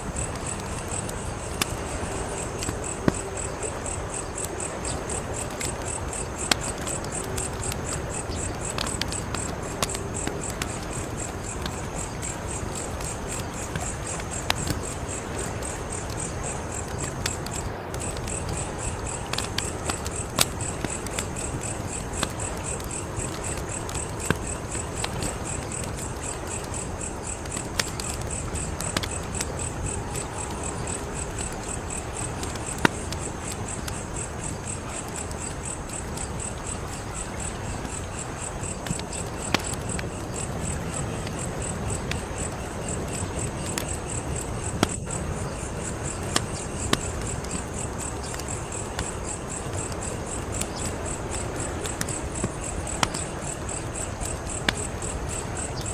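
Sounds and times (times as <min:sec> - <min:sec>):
crickets trilling: 0:00.0 - 0:55.9
wood fire crackling and popping: 0:00.0 - 0:55.9.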